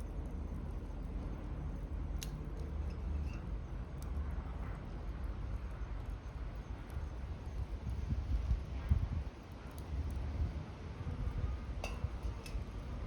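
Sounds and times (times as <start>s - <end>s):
fire crackles: 0.0s - 13.0s
wood fire burning: 0.0s - 13.0s.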